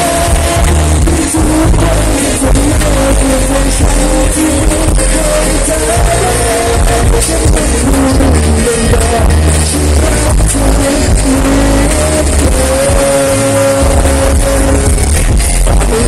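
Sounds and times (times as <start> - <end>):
backing track with heavy bass: 0.0 - 16.0
man singing into microphone: 0.0 - 16.0.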